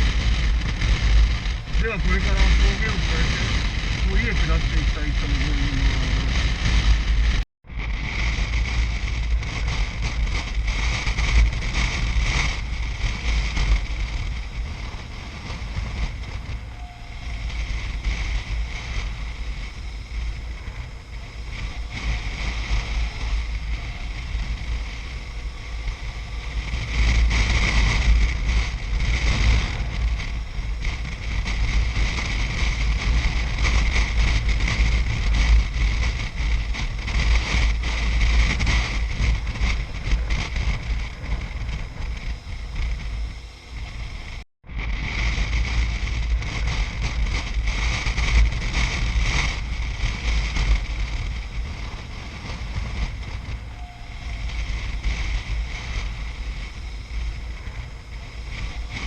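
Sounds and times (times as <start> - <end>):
motorcycle engine: 0.0 - 59.0
road noise: 0.0 - 59.0
wind buffeting microphone: 0.0 - 59.0.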